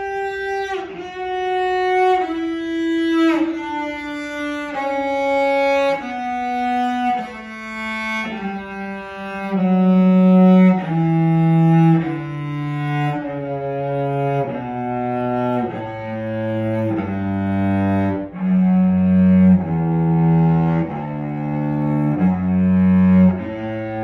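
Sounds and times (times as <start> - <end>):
bowed cello playing a scale: 0.0 - 24.0.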